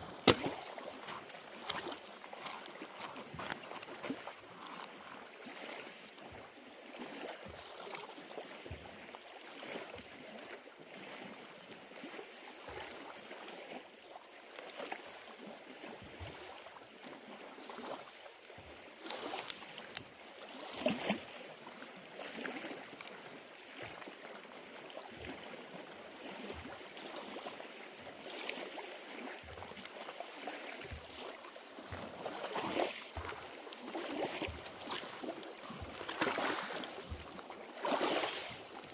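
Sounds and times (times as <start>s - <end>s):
waves lapping: 0.0s - 11.4s, 14.8s - 38.9s.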